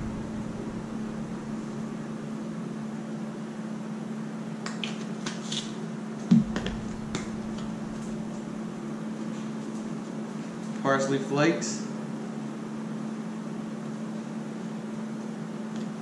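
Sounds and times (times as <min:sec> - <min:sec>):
steady low hum: 0:00.0 - 0:04.6, 0:05.7 - 0:16.0.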